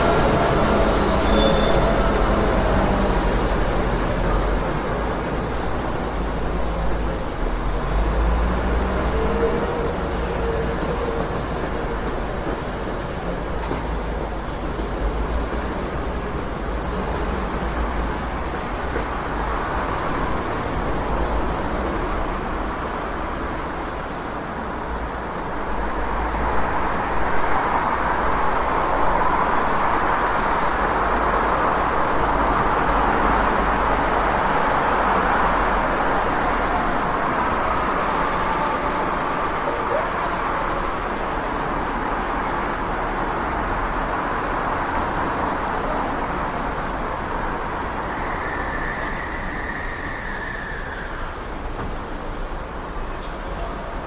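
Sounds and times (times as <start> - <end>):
passing cars: 0.0 - 54.0.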